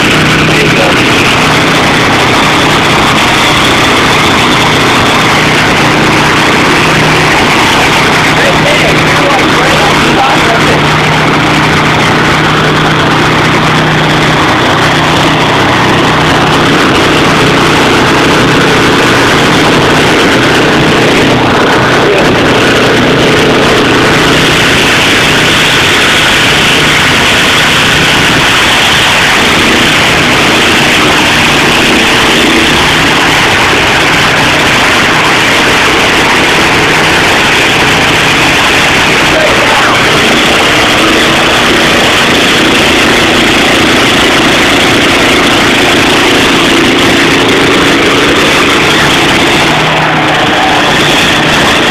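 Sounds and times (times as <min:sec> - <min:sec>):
harsh bright grinding noise: 0:00.0 - 0:51.9
stump grinder engine running: 0:00.0 - 0:51.9.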